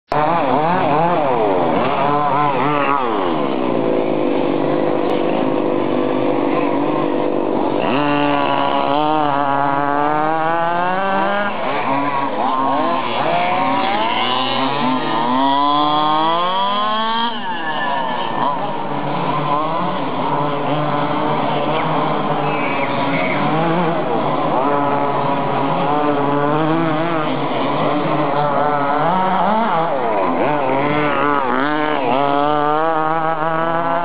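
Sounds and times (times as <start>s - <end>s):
model buggy engines revving: 0.1s - 34.0s.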